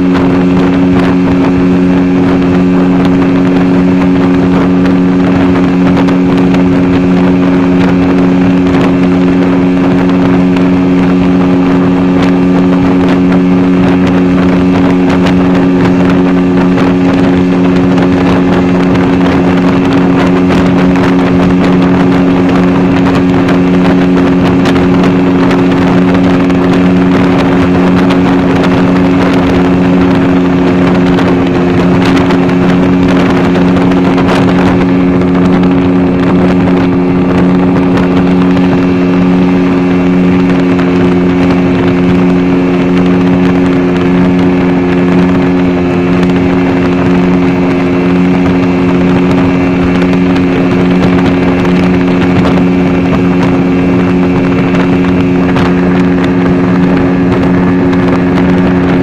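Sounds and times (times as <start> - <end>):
boat engine droning: 0.0 - 59.0
water spray hissing along hull: 0.0 - 59.0.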